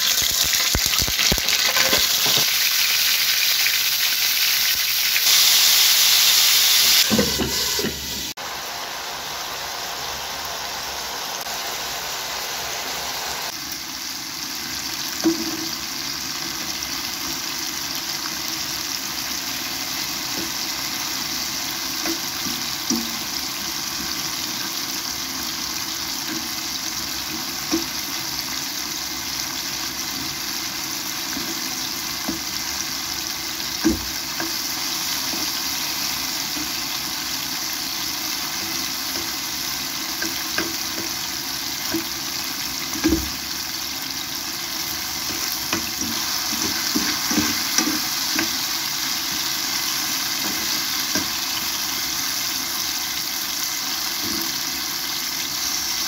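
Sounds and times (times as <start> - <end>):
mushrooms sizzling in a pan: 0.0 - 56.0.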